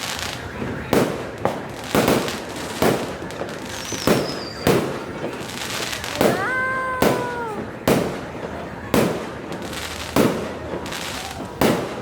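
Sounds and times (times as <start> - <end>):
continuous crackling: 0.0 - 12.0
firecracker bangs: 0.0 - 12.0.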